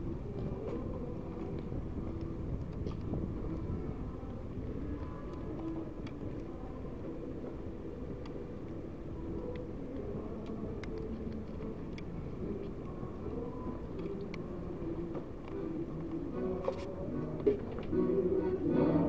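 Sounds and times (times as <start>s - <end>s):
muffled group singing folk songs: 0.0s - 19.0s.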